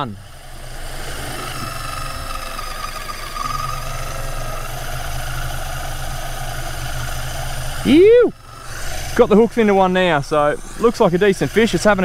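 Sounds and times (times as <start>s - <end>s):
electric fishing reel motor whine: 0.0s - 12.0s
low engine hum: 0.0s - 12.0s.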